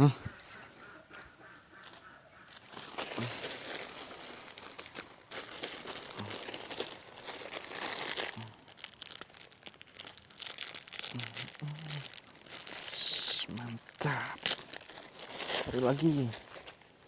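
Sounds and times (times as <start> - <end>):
crinkling and rustling handling: 1.8 - 17.0.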